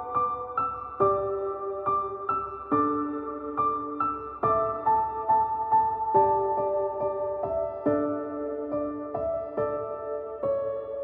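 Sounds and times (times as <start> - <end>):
gentle piano notes: 0.0 - 11.0.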